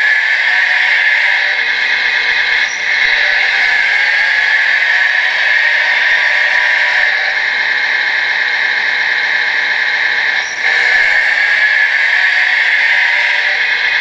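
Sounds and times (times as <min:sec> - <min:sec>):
toy bulldozer motors whirring: 0:00.0 - 0:14.0.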